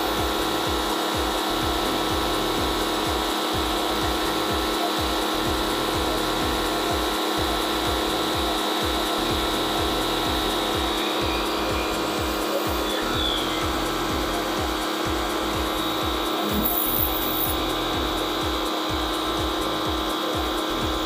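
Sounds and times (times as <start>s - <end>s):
pressure washer motor running: 0.0s - 21.0s.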